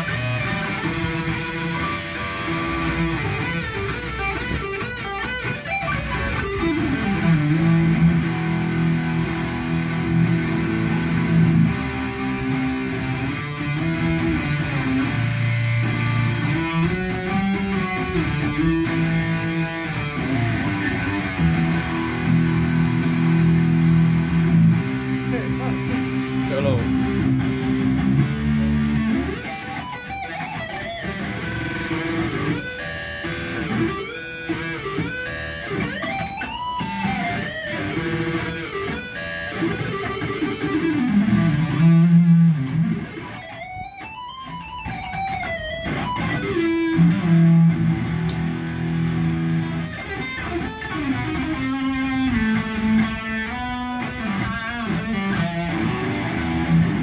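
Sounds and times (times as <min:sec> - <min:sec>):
electric guitar lead line: 0:00.0 - 0:57.0.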